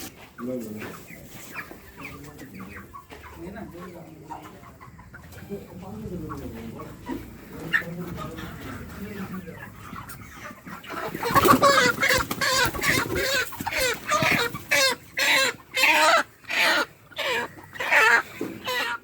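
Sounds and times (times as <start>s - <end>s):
chicken squawking: 0.8s - 19.0s.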